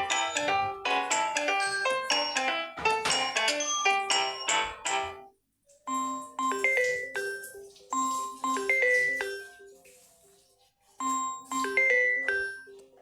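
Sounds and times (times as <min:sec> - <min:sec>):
chiming bell-like ringtone melody: 0:00.0 - 0:05.3, 0:05.9 - 0:09.7, 0:11.0 - 0:12.8
ringtone: 0:00.0 - 0:05.3, 0:05.9 - 0:09.7, 0:11.0 - 0:13.0.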